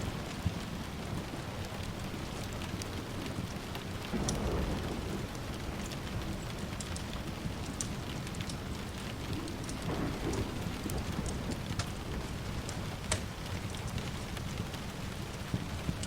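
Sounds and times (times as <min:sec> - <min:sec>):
steady rain: 0:00.0 - 0:16.0
distant thunder rumble: 0:02.1 - 0:16.0.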